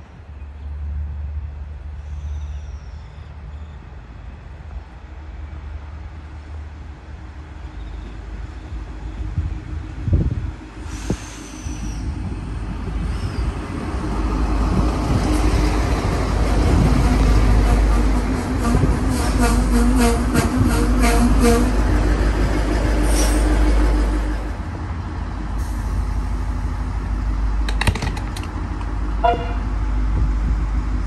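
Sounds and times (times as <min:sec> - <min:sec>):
diesel train rumble: 0:00.0 - 0:31.0.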